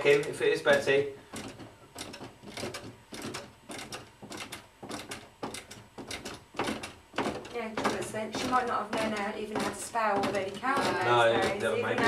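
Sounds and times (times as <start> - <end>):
folding table knocking and clicking: 0.0 - 12.0.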